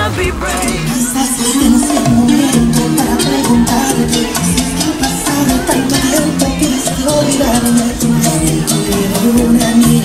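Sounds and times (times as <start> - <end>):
latin-style song with shakers: 0.0 - 10.0
pop music beat: 0.0 - 10.0.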